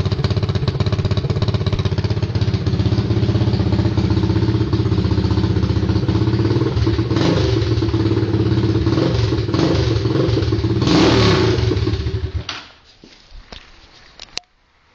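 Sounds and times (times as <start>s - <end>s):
engine idling with loud exhaust: 0.0s - 12.4s.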